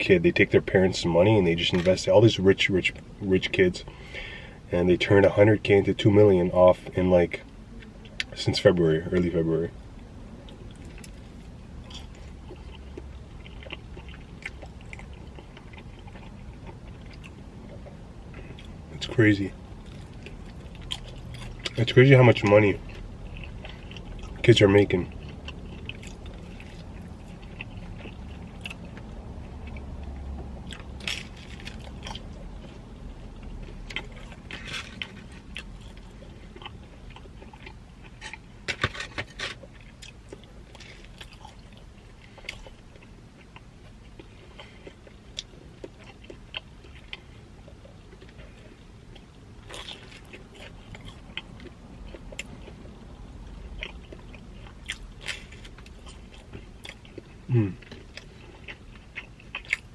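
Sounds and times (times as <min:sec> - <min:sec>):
chewing and crunching pizza: 0:00.0 - 0:59.9.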